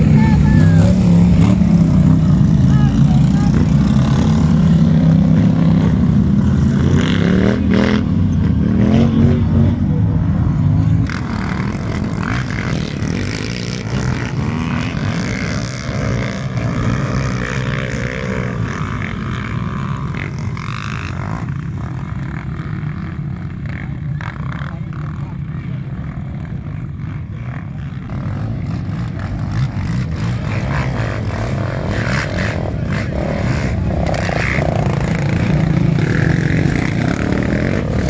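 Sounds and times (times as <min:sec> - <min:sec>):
quad bike engines revving: 0:00.0 - 0:38.0.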